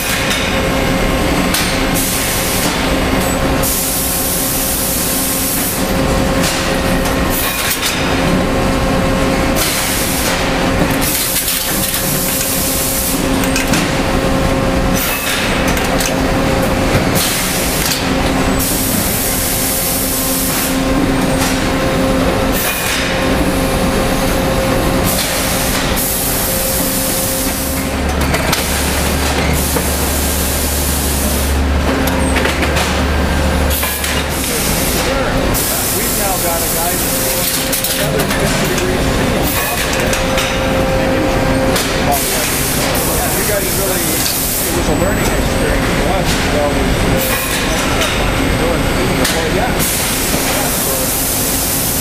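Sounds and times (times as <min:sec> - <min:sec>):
machine hum: 0:00.0 - 0:52.0.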